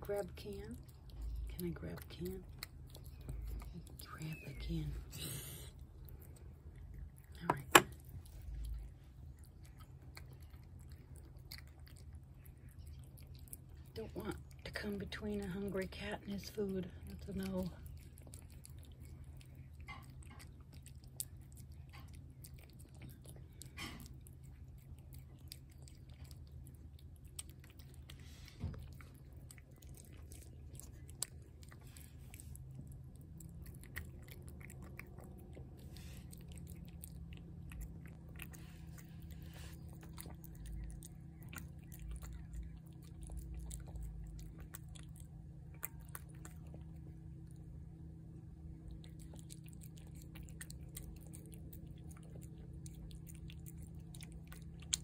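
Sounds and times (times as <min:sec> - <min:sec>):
cat chewing wet food: 0:00.0 - 0:55.0
faint low hum: 0:00.0 - 0:55.0.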